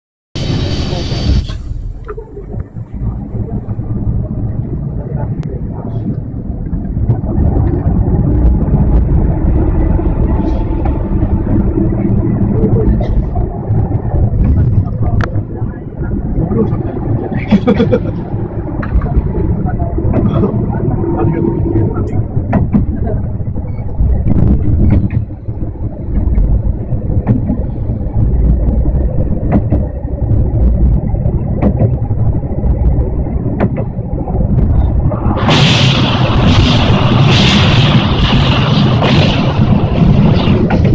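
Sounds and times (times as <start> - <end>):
railcar engine and wheel rumble: 0.4 - 40.9.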